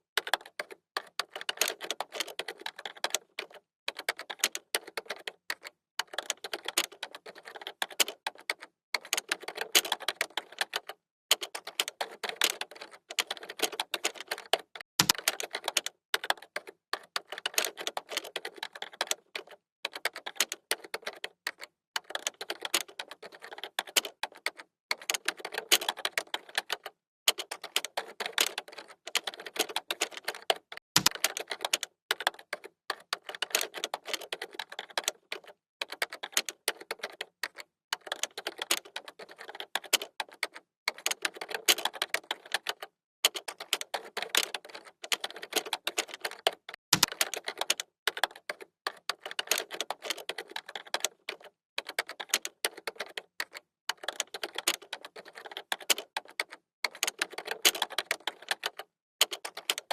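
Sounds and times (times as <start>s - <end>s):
fast typing on keyboard: 0.0s - 59.9s.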